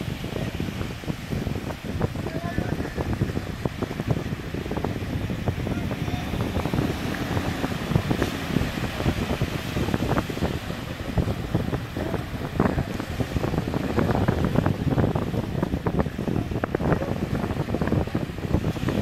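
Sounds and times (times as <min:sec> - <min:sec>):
waves washing onto beach: 0:00.0 - 0:19.0
wind buffeting microphone: 0:00.0 - 0:19.0.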